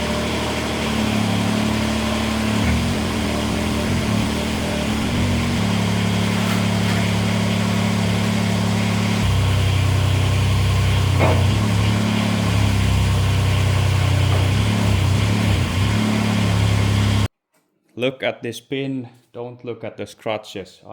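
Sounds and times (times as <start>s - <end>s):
tractor diesel engine running: 0.0s - 17.3s.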